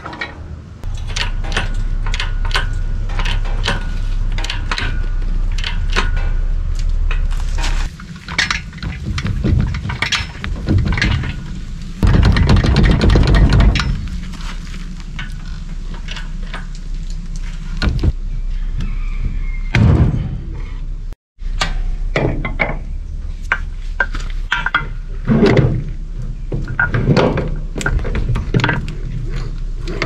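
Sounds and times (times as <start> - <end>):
metal clunks and knocks: 0.0 - 18.2, 18.8 - 20.8, 21.6 - 30.0
steady low hum: 0.0 - 30.0.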